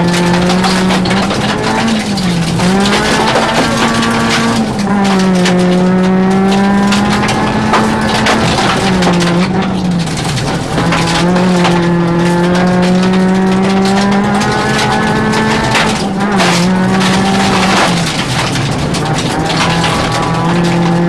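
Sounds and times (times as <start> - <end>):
car body knocks and rattles: 0.0 - 21.0
car engine at high revs: 0.0 - 21.0.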